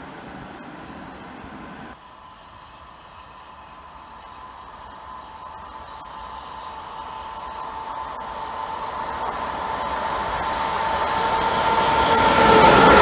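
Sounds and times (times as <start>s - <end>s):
train approaching with hiss: 0.0s - 13.0s
steady high tone: 1.9s - 13.0s.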